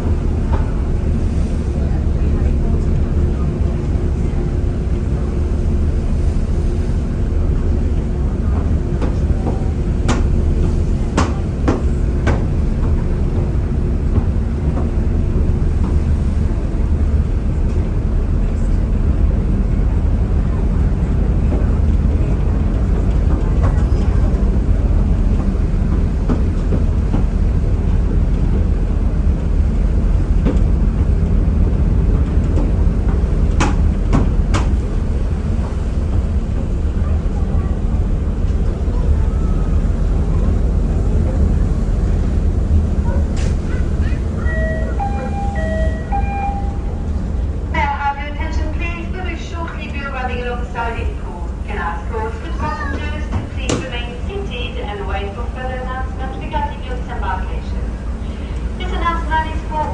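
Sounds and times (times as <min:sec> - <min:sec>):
ferry engine rumble: 0:00.0 - 0:59.9.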